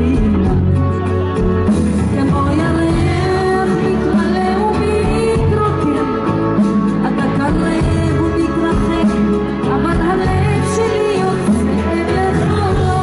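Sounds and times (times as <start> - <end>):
live band music through pa: 0.0 - 13.0
person singing: 0.0 - 13.0.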